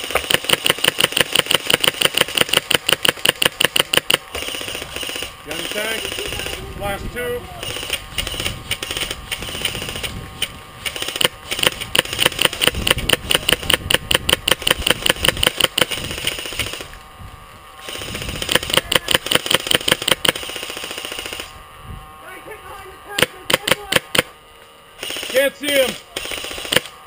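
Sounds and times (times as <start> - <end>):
airsoft gun firing full auto: 0.0 - 6.6, 7.6 - 10.1, 10.8 - 16.9, 17.8 - 21.5, 23.2 - 24.3, 25.0 - 26.9.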